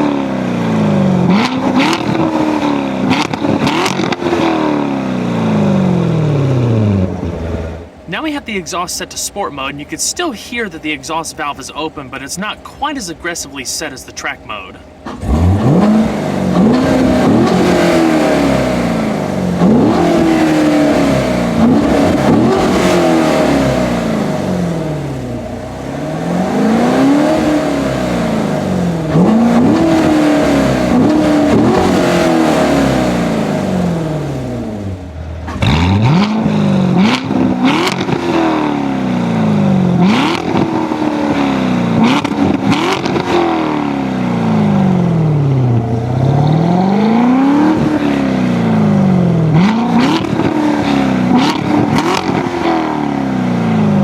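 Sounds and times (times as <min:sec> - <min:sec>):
car engine revving: 0:00.0 - 0:54.0
exhaust cracks: 0:00.0 - 0:54.0.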